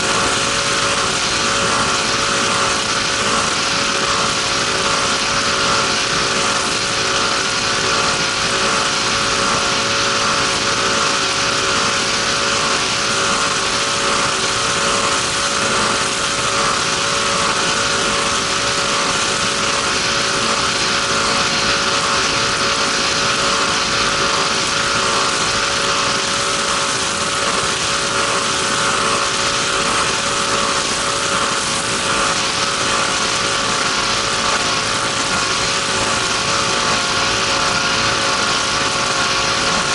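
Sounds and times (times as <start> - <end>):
power boat engine running: 0.0 - 39.9
rush of wind and water: 0.0 - 39.9.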